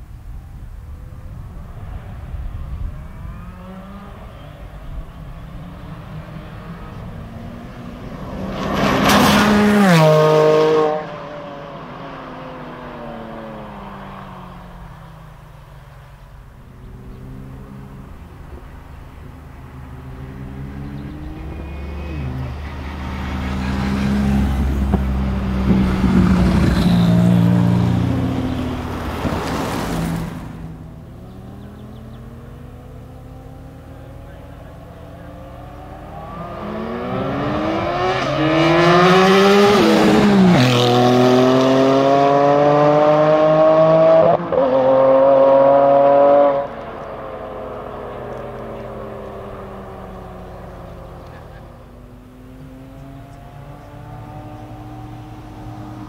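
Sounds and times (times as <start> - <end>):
cars accelerating hard: 1.4 - 56.0
car passing by: 1.5 - 15.0, 16.8 - 56.0.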